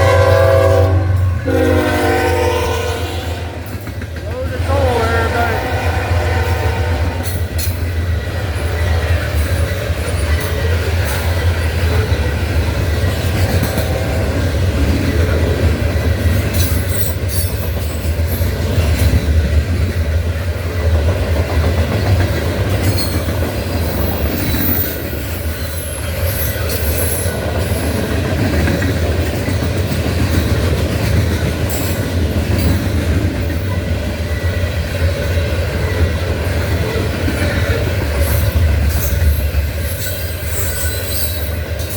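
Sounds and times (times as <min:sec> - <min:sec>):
train cars rumbling: 0:00.0 - 0:41.9
wheels clacking over rail joints: 0:03.6 - 0:05.1, 0:07.2 - 0:41.9.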